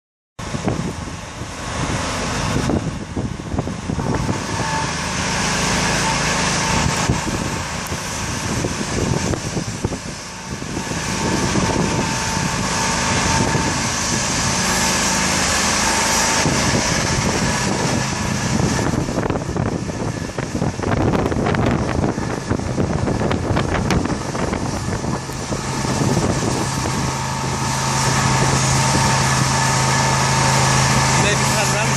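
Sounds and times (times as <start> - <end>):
engine running: 0.4 - 31.9
low hum: 0.4 - 31.9
high-pressure water spray hiss: 1.2 - 20.3, 22.3 - 31.9.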